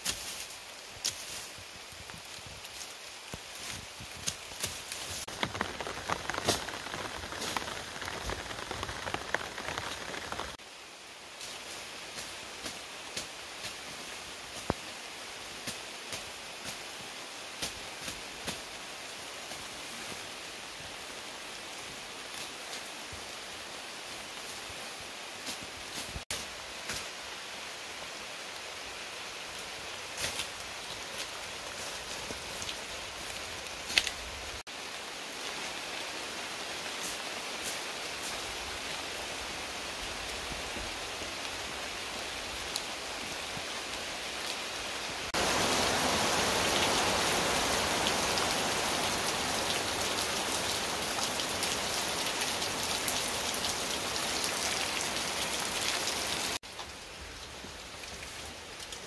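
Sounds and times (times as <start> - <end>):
steady rain: 0.0 - 59.0
rain on a corrugated roof: 1.6 - 59.0.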